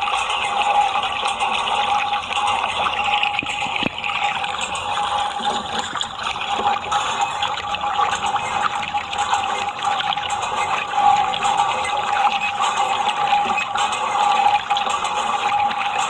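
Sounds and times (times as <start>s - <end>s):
steady high hum: 0.0s - 16.0s
water running and splashing: 0.0s - 16.0s.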